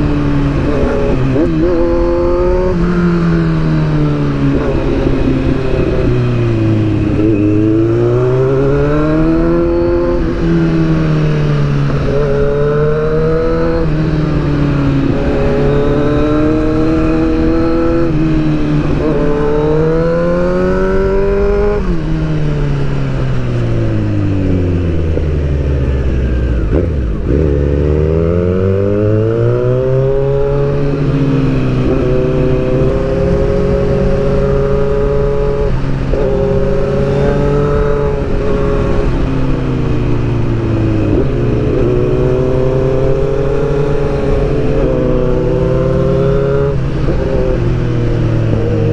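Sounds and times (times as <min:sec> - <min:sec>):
sportbike engine accelerating: 0:00.0 - 0:48.9.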